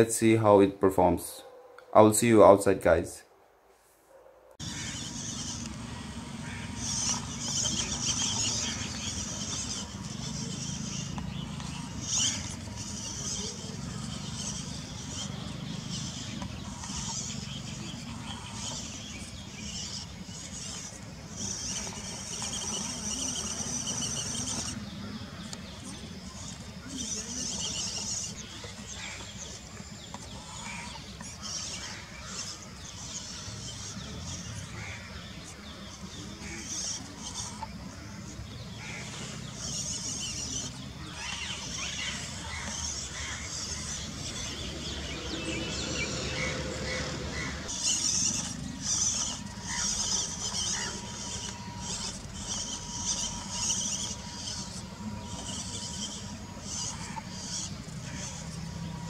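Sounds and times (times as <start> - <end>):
birds chirping: 4.2 - 59.0.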